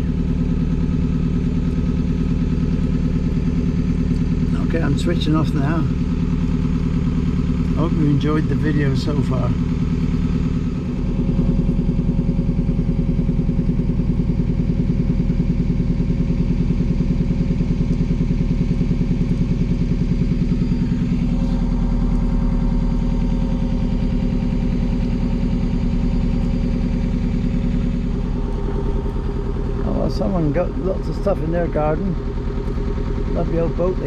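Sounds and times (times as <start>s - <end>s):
boat diesel engine throbbing: 0.0s - 34.0s.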